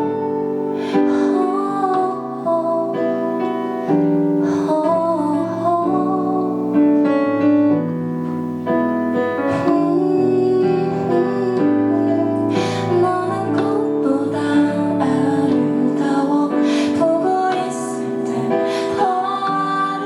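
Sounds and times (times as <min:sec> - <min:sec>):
woman singing softly: 0:00.0 - 0:07.1, 0:09.3 - 0:20.0.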